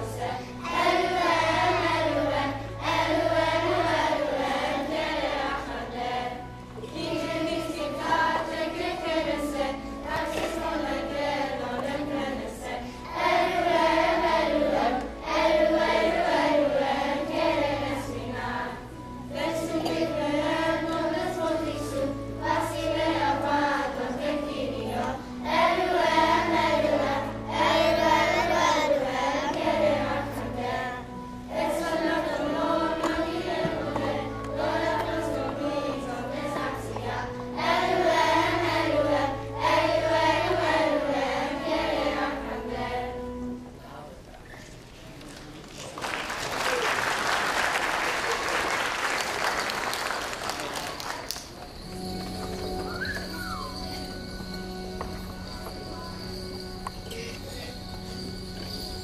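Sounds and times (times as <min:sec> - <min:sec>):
children's choir singing: 0:00.0 - 0:44.1, 0:47.4 - 0:59.0
low held accompaniment notes: 0:00.0 - 0:45.1, 0:51.6 - 0:59.0.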